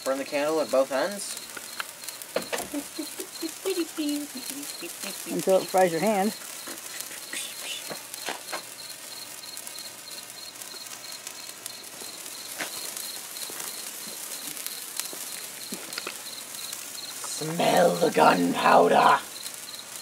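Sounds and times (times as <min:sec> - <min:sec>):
crickets chirping: 0:00.0 - 0:20.0
sharp crackles: 0:00.0 - 0:20.0
sparklers fizzing: 0:00.0 - 0:20.0.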